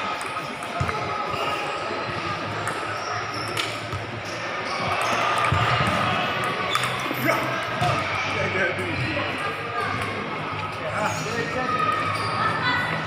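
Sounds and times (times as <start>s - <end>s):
hall background noise: 0.0s - 13.0s.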